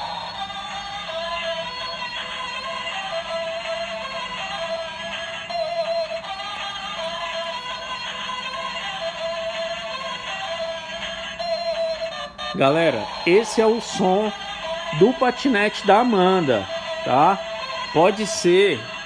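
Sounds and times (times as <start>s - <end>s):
synthesized toy melody: 0.0s - 19.0s.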